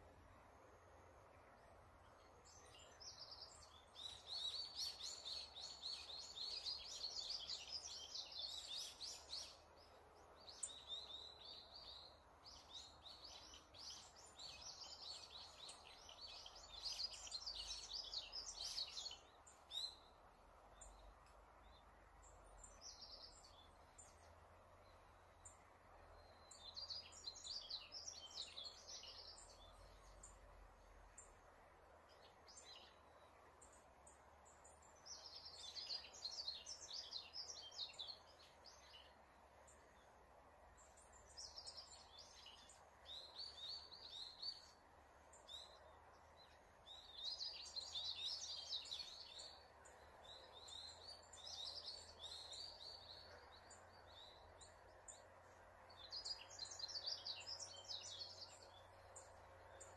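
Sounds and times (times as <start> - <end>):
faint steady hiss: 0.0 - 59.9
songbirds trilling: 1.5 - 59.9.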